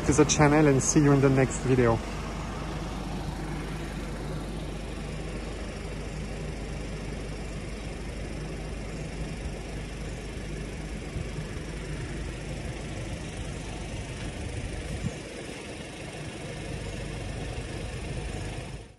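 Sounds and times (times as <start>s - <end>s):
street noise hiss: 0.0s - 18.9s.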